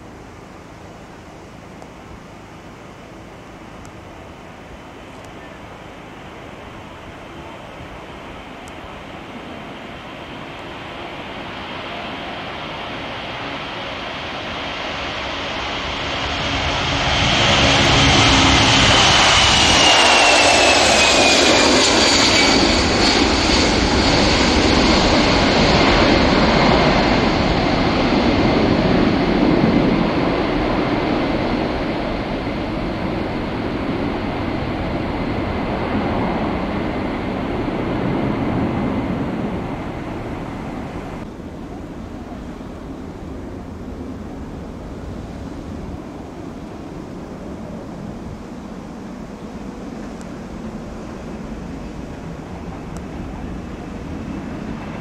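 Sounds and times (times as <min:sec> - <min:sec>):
high jet whine: 0:00.0 - 0:55.0
jet engines roaring: 0:00.0 - 0:55.0.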